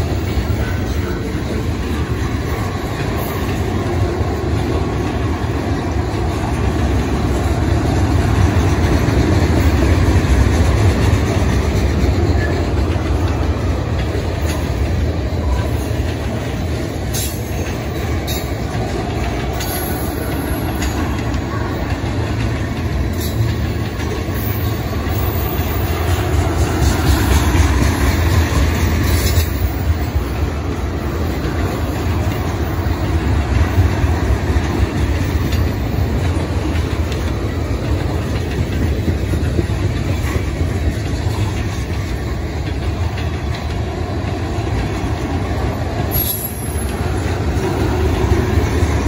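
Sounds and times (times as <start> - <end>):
train rumbling past: 0.0 - 49.0
train wheel clicks: 0.0 - 49.0.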